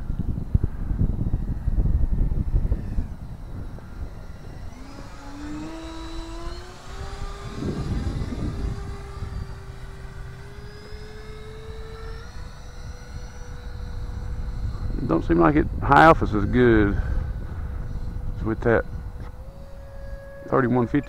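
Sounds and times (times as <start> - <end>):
electric ducted fan whining: 0.0 - 21.0
low rumble: 0.0 - 21.0.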